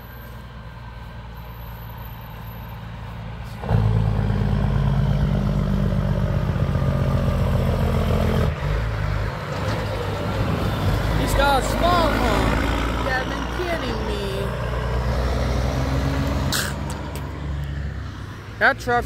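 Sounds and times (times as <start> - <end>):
truck diesel engine passing: 0.0 - 19.0.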